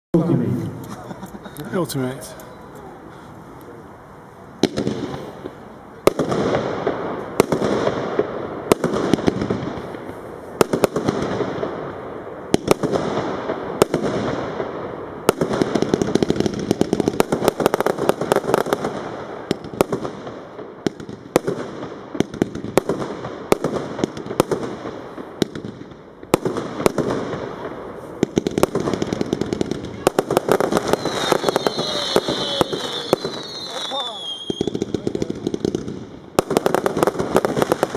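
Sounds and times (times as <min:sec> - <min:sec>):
firework shots with crackling: 0:04.6 - 0:37.9.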